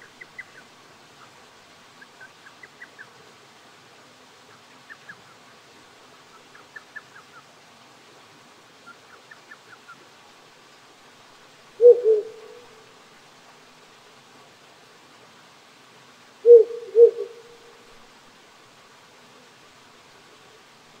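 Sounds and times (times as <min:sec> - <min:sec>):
small stream hissing: 0:00.0 - 0:21.0.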